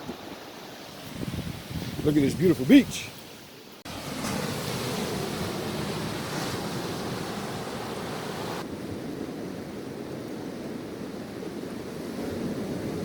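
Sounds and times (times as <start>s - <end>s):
wind on microphone: 0.0s - 3.3s, 4.0s - 13.0s
ocean surf washing onto beach: 0.0s - 13.0s.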